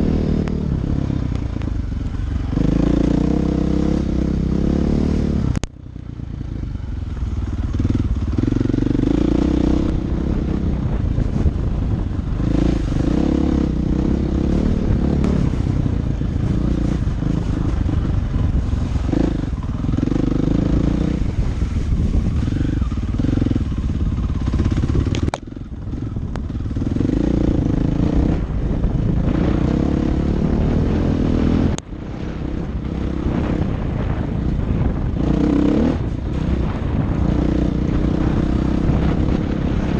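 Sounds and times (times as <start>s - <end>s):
dirt bike engine revving: 1.8s - 5.5s, 7.2s - 39.9s.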